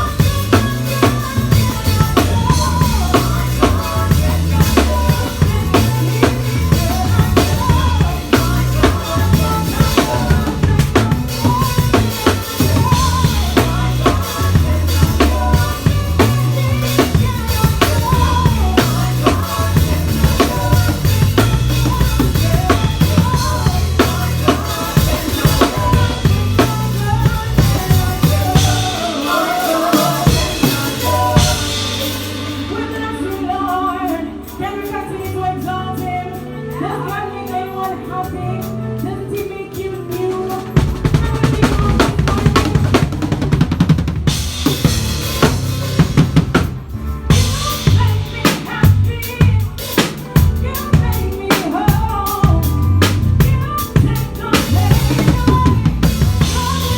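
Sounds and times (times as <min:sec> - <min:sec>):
deep bass notes: 0:00.0 - 0:35.2, 0:40.8 - 0:49.8, 0:52.1 - 0:56.9
drum kit played hard: 0:00.0 - 0:56.9
held chords: 0:00.0 - 0:56.9.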